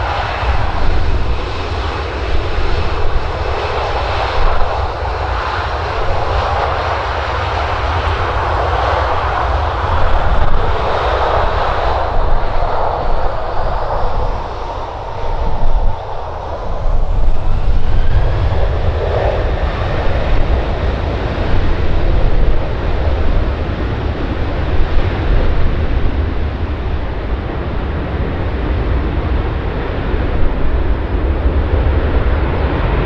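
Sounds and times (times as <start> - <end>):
jet engine whine rising: 0.0 - 33.0
jet engines roaring: 0.0 - 33.0.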